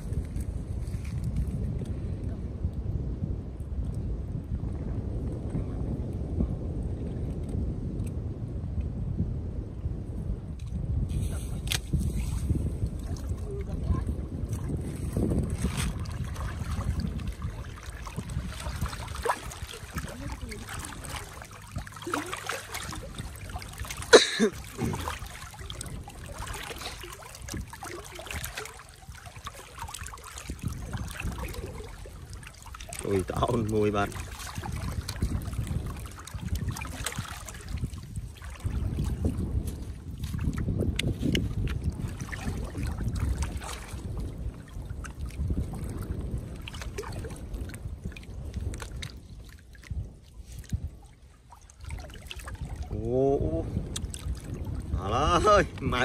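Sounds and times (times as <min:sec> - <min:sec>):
water lapping and trickling: 0:00.0 - 0:09.0, 0:09.7 - 0:56.0
steady low rumble: 0:00.0 - 0:56.0.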